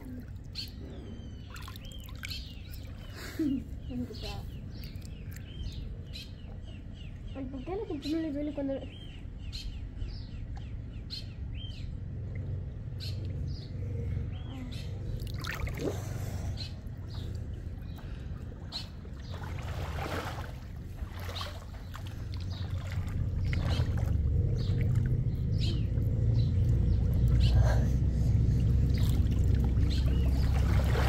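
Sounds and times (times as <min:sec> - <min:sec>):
low steady rumble: 0:00.0 - 0:31.0
small birds chirping: 0:00.0 - 0:31.0.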